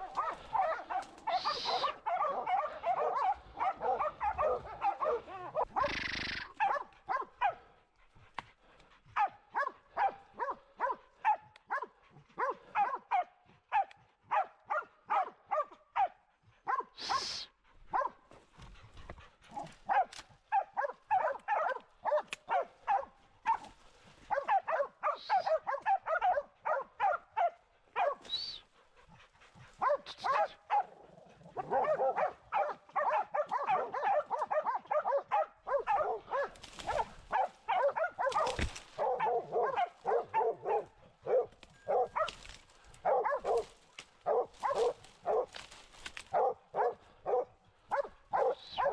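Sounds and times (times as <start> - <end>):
dogs barking: 0.0 - 48.9.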